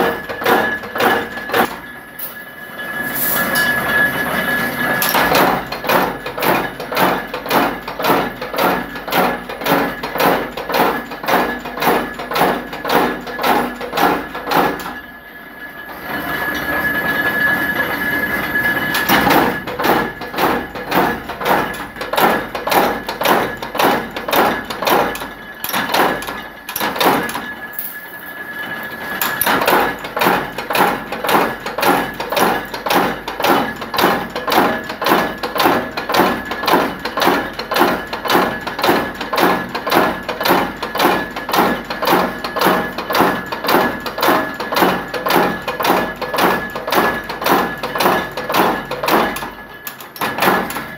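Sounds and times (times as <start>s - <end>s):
power press metallic strokes: 0.0s - 15.2s, 15.8s - 50.9s
high machine whine: 0.0s - 50.9s.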